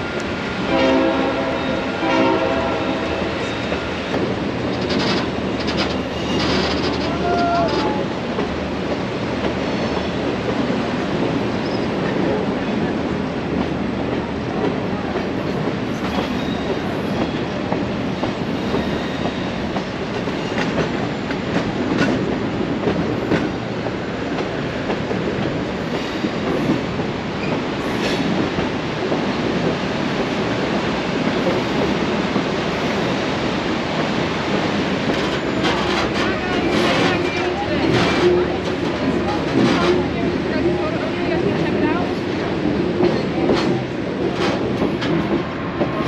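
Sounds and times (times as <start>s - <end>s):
train wheels rumbling on track: 0.0s - 46.0s.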